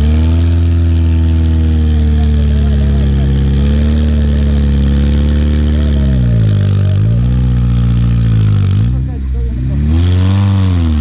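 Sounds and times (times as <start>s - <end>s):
engine revving under load: 0.0s - 11.0s.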